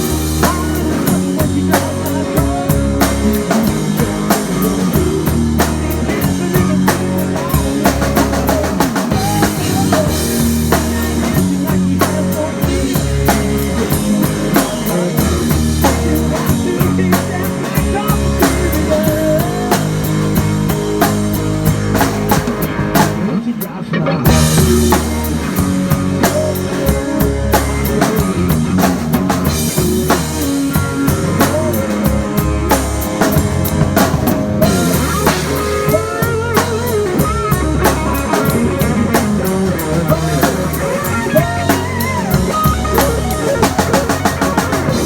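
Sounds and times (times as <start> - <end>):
bass guitar: 0.0 - 45.0
drum kit beat: 0.0 - 45.0
electric guitar lead lines: 0.0 - 45.0.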